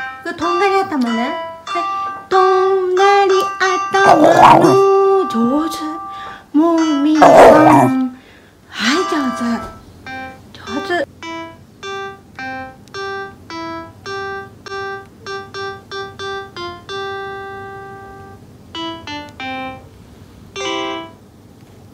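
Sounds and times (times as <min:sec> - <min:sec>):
simple keyboard tune: 0:00.0 - 0:08.2, 0:08.9 - 0:21.3.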